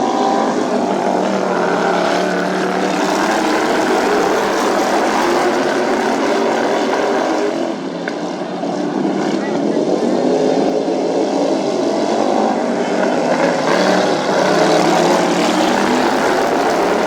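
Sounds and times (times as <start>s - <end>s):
lawn mower engines running hard: 0.0s - 17.0s.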